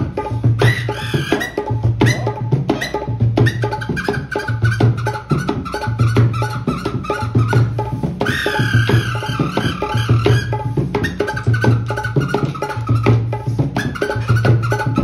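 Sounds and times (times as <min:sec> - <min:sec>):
fast hand-drum rhythm: 0:00.0 - 0:15.0.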